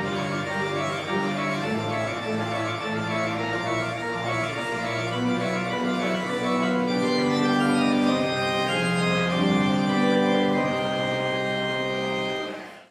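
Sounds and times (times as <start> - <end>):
church organ chords: 0.0 - 12.9.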